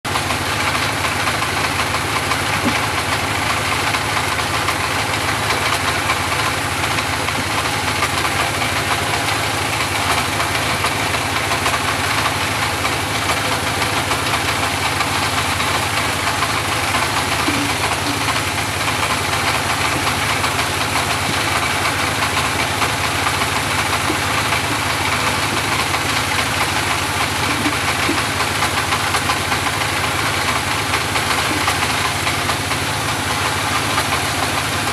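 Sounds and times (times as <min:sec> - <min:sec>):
sawmill engine running: 0:00.1 - 0:34.9.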